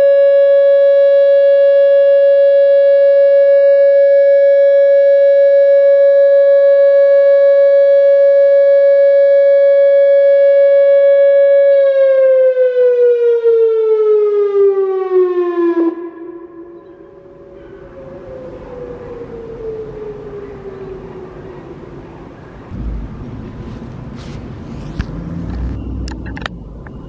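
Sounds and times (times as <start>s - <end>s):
faint lower siren tone: 0.0s - 27.0s
outdoor warning siren wail: 0.0s - 27.0s.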